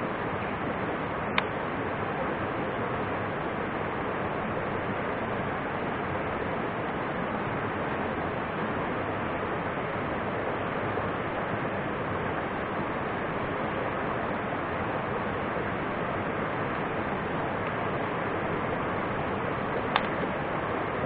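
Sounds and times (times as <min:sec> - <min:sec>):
mountain stream flowing over rocks: 0:00.0 - 0:21.0.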